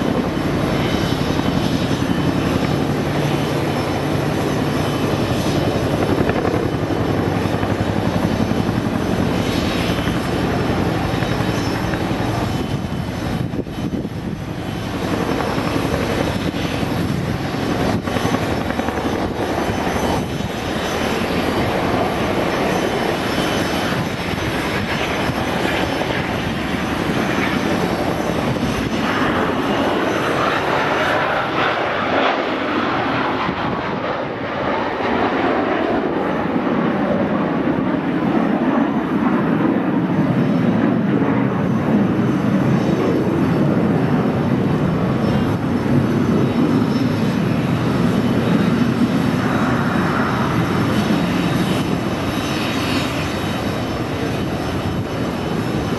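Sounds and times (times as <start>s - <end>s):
helicopter engines and rotors: 0.0s - 55.9s.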